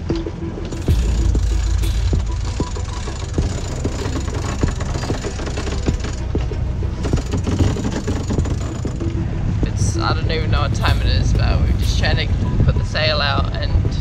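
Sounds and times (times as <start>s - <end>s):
boat gear knocking and rattling: 0.0s - 14.0s
wind rumbling on microphone: 0.9s - 14.0s.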